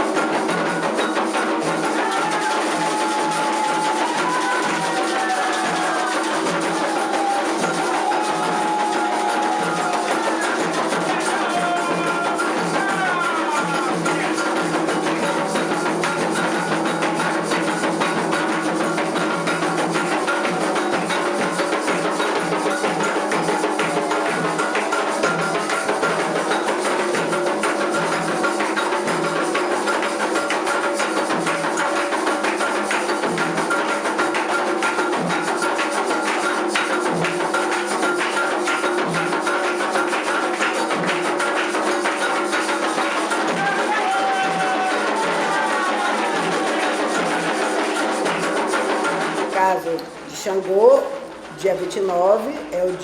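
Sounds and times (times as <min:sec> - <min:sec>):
hand drums and percussion: 0:00.0 - 0:53.0.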